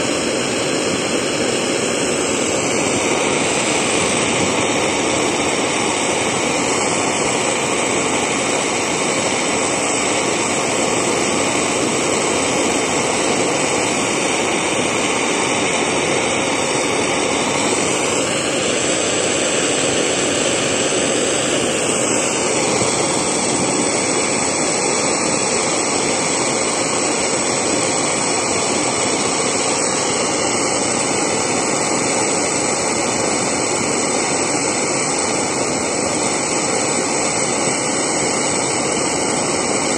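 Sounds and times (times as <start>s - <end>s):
blowtorch flame hissing: 0.0s - 39.9s.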